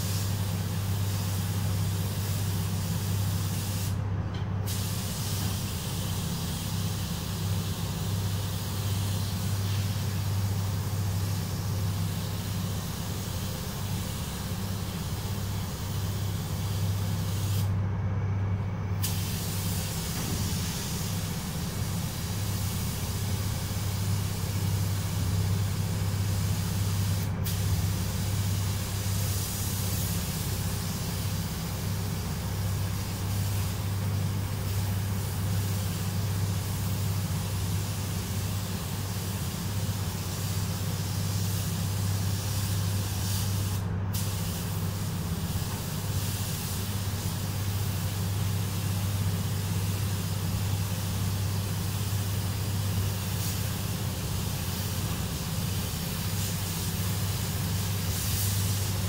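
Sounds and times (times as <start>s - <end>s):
spray gun hissing: 0.0s - 4.0s, 4.7s - 17.7s, 19.0s - 59.0s.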